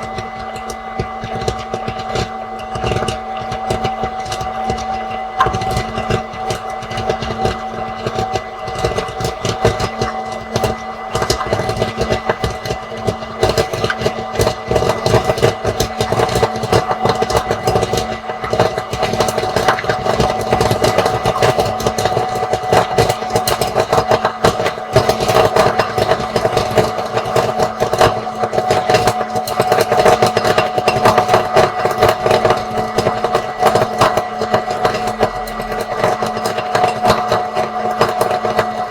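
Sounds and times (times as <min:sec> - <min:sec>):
popcorn kernels popping: 0:00.0 - 0:38.9
popcorn machine motor hum: 0:00.0 - 0:38.9.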